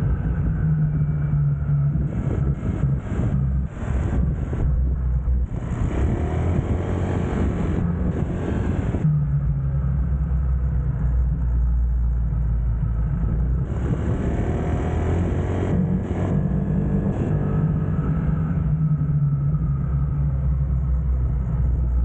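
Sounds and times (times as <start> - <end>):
wind rushing over microphone: 0.0 - 9.4, 12.6 - 22.0.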